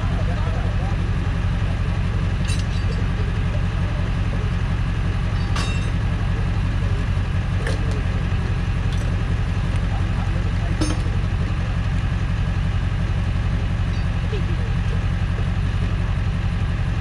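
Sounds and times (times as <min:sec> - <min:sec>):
tow truck engine idling: 0:00.0 - 0:17.0.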